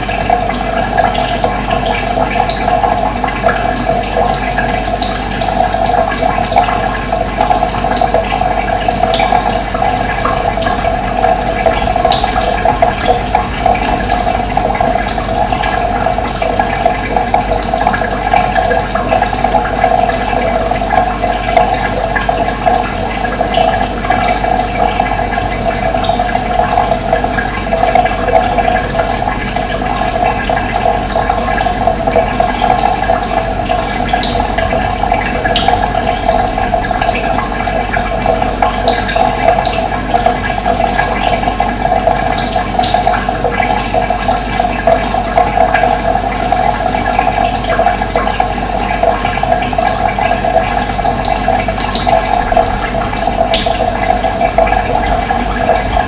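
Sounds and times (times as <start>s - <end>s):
water rushing and gurgling: 0.0s - 56.0s.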